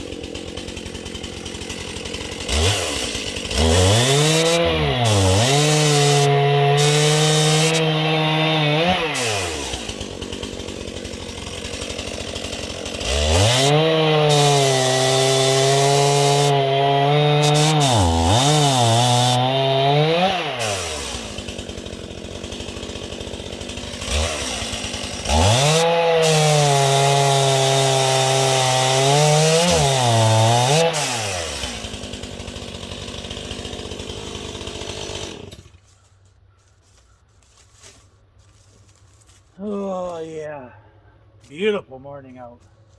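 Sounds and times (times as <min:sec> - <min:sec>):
chainsaw cutting logs: 0:00.0 - 0:42.9.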